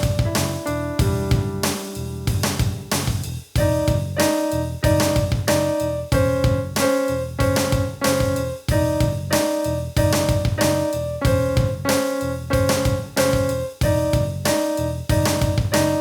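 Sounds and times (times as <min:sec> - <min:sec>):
drum machine beat: 0:00.0 - 0:16.0
piano chords: 0:00.0 - 0:16.0.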